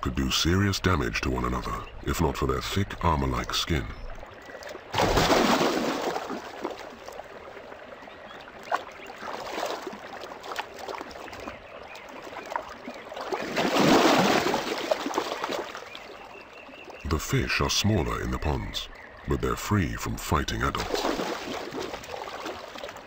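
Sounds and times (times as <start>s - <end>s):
water splashing and sloshing: 0.0s - 23.0s.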